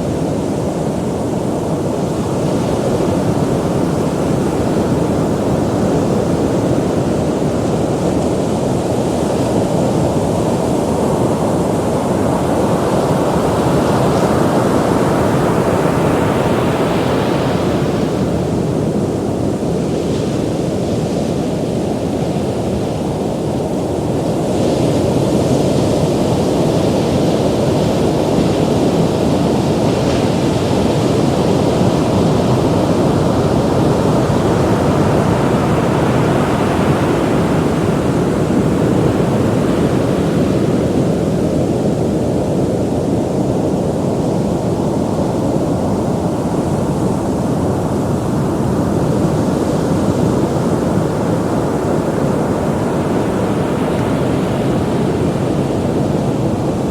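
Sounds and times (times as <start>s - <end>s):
low rush of waves: 0.0s - 56.9s.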